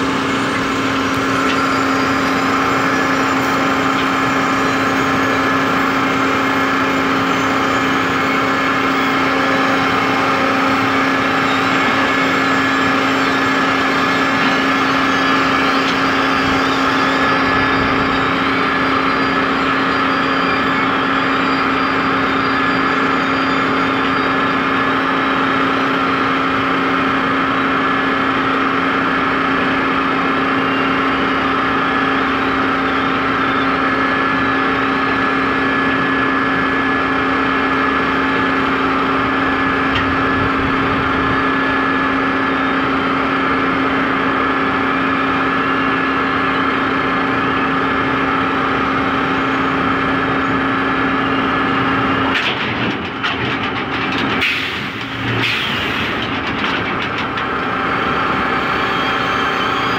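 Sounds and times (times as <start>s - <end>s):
heavy machinery humming: 0.0s - 59.9s
machinery whine: 0.0s - 59.9s.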